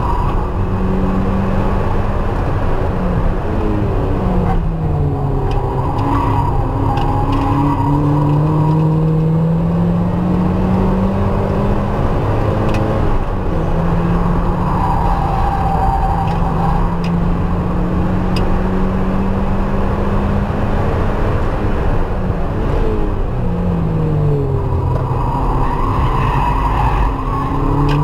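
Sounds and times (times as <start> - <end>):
car engine accelerating: 0.0 - 28.0
road and wind noise: 0.0 - 28.0.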